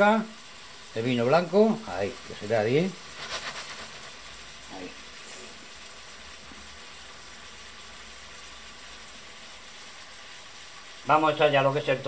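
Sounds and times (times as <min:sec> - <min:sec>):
clams sizzling in a frying pan: 0:00.0 - 0:12.0.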